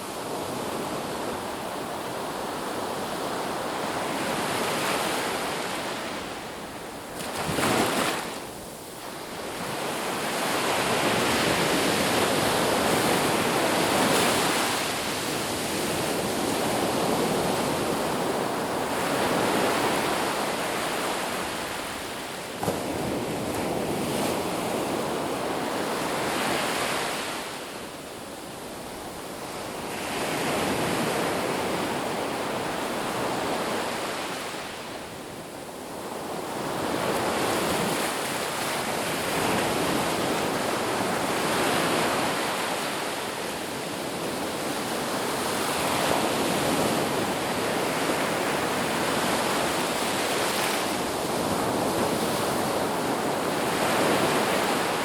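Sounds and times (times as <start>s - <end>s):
waves washing onto beach: 0.0s - 55.0s.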